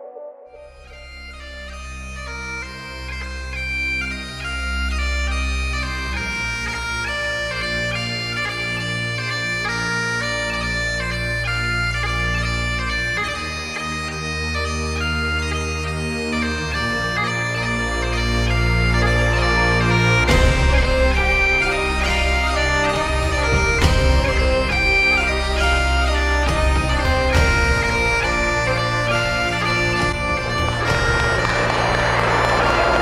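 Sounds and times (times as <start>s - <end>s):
reedy wind instrument melody: 0.0s - 33.0s.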